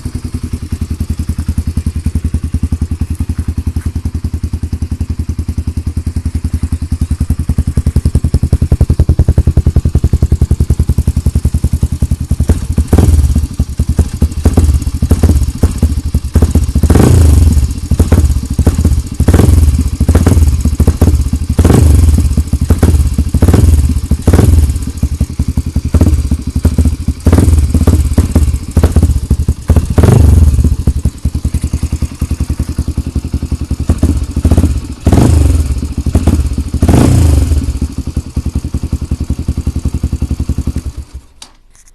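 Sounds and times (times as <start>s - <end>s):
motorcycle engine idling and revving: 0.0s - 41.9s.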